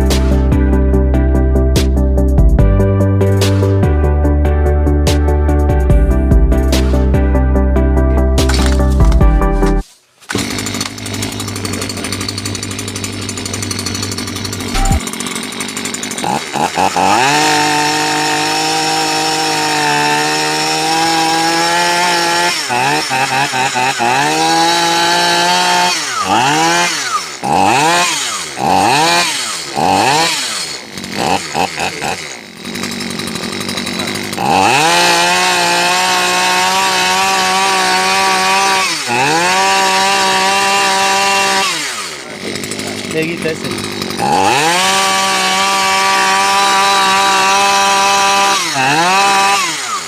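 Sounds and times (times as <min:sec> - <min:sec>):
chainsaw engine revving: 0:08.4 - 0:09.2, 0:10.3 - 0:50.0.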